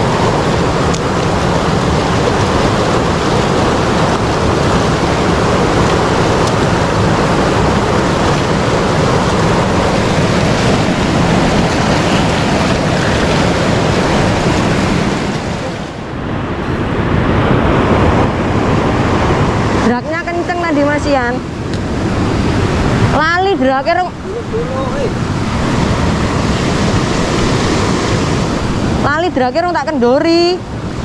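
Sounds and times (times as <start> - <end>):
river water rushing over rapids: 0.0 - 31.0.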